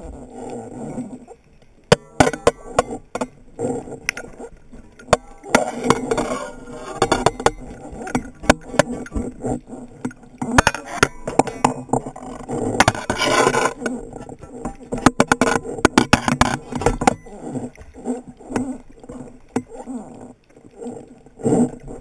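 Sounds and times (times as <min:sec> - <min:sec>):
sharp underwater clicks and knocks: 0:01.6 - 0:22.0
rushing water: 0:01.8 - 0:22.0.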